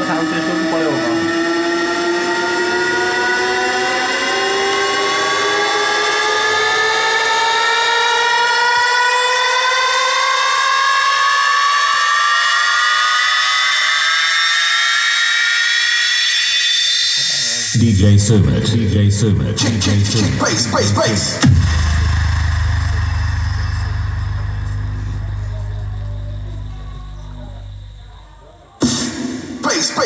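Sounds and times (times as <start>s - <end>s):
rising synth tone from speaker: 0.0s - 17.7s, 21.4s - 29.0s.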